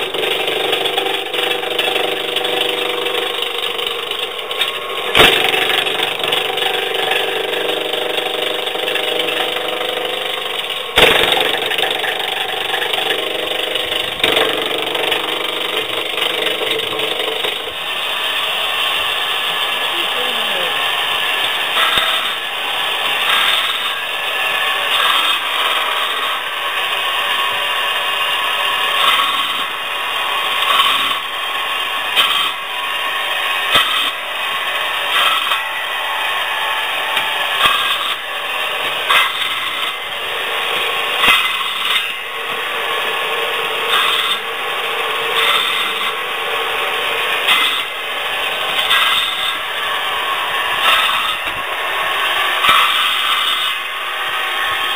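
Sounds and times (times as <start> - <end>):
saw blade cutting branches: 0.0 - 18.4, 19.8 - 28.0, 28.6 - 44.6, 45.2 - 53.9
electric motor of branch chipper: 0.0 - 54.9.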